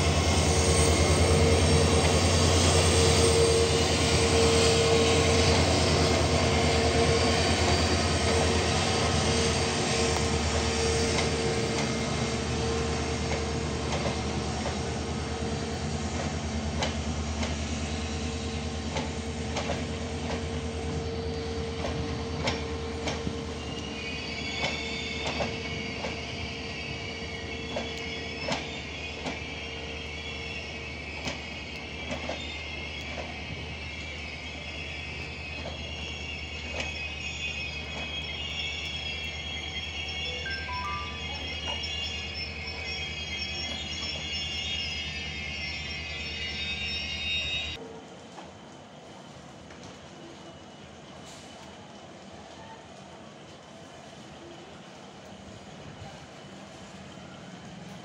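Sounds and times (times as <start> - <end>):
high wheel squeal: 0.0 - 47.8
locomotive engine drone: 0.0 - 47.8
train wheels rumbling: 0.0 - 58.0.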